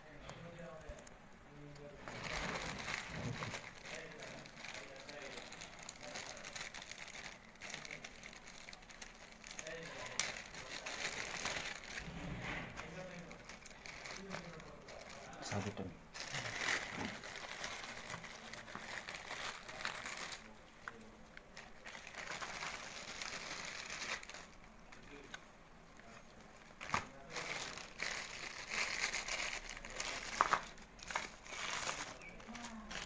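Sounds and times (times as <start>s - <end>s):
plastic packaging crinkling: 1.6s - 33.0s.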